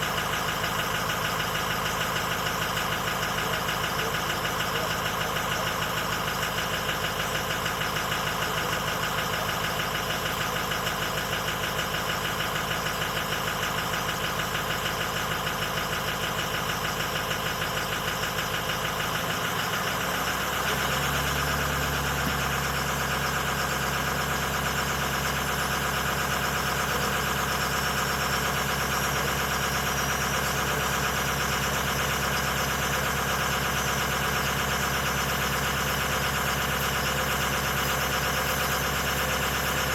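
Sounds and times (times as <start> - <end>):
diesel engine idling with clatter: 0.0 - 39.9.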